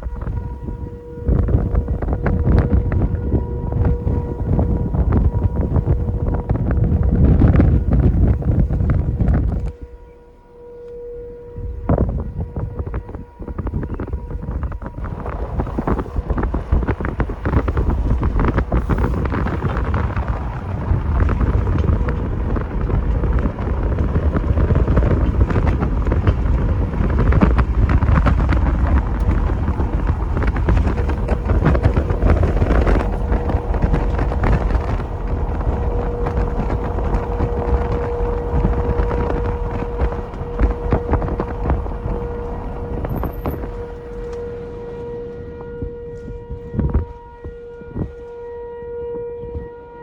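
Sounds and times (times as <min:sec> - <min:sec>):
distant warning siren: 0:00.0 - 0:50.0
wind buffeting microphone: 0:00.0 - 0:50.0.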